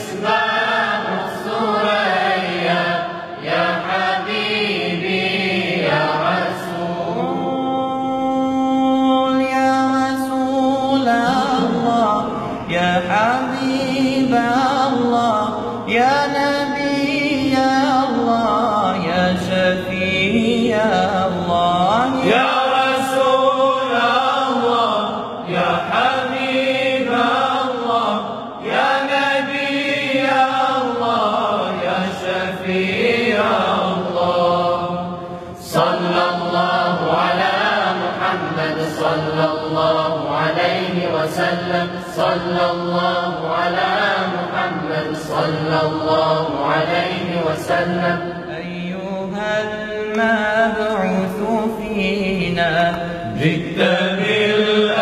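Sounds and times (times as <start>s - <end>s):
men singing unaccompanied: 0.0s - 55.0s.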